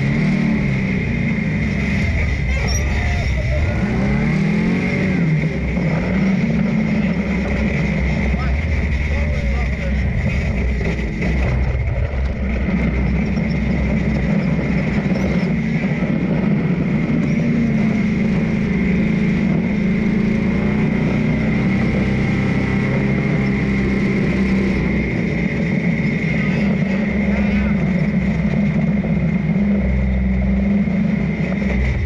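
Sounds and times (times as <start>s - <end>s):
dune buggy engine under load: 0.0s - 32.0s.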